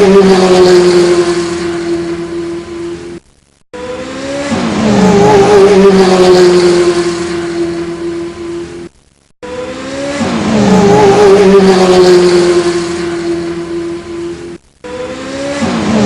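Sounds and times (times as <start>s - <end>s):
car engine revving: 0.0s - 3.2s, 3.8s - 16.0s.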